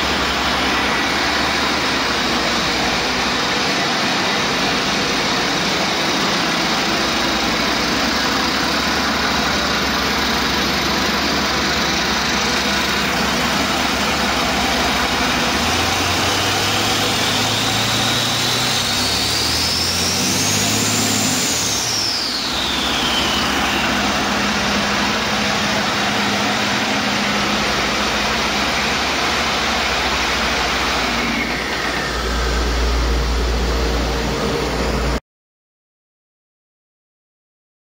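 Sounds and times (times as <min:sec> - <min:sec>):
diesel engine idling and revving: 0:00.0 - 0:35.2
turbocharger whine: 0:00.0 - 0:35.2.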